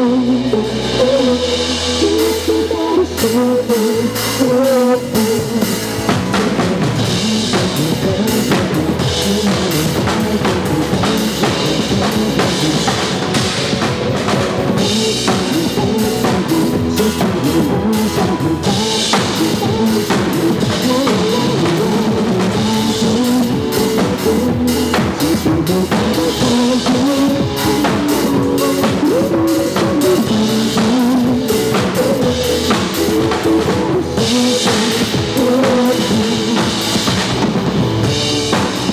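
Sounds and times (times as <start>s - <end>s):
drum kit playing a steady beat: 0.0s - 38.9s
pop backing track: 0.0s - 38.9s.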